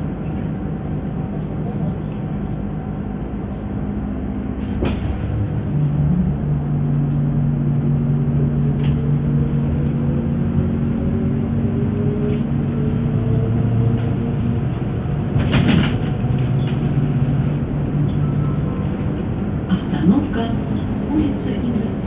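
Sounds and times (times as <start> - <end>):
road rumble: 0.0 - 22.0
trolleybus motor hum and whine: 0.0 - 22.0.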